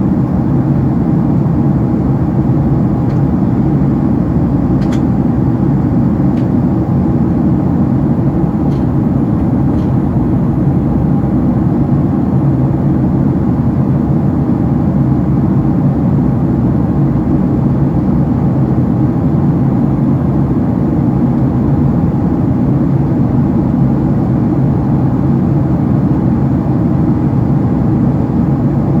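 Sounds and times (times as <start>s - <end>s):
jet engine drone in cabin: 0.0s - 29.0s.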